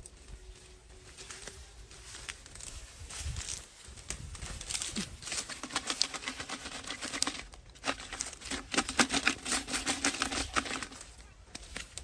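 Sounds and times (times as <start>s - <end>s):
leaves rustling and snapping: 1.1s - 12.0s.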